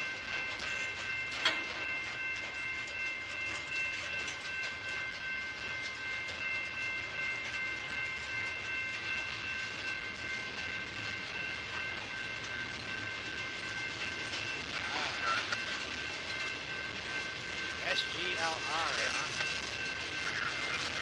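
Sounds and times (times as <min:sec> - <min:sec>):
train wheels clattering over rail joints: 0:00.0 - 0:17.8.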